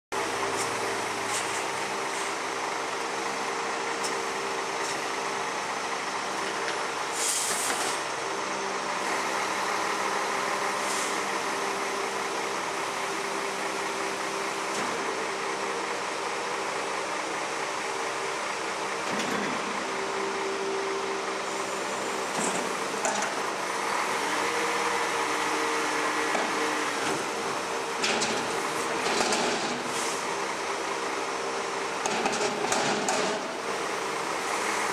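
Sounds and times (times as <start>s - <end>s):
diesel engine rumbling: 0.1s - 34.9s.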